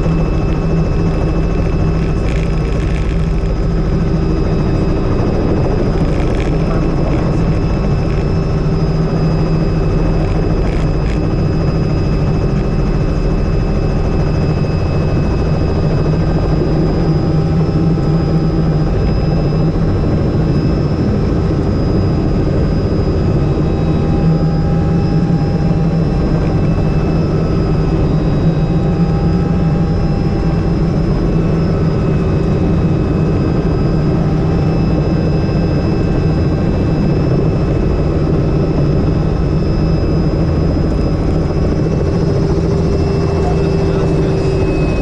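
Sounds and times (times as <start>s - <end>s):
helicopter engine and rotors: 0.0s - 45.0s
high steady whines: 0.0s - 45.0s.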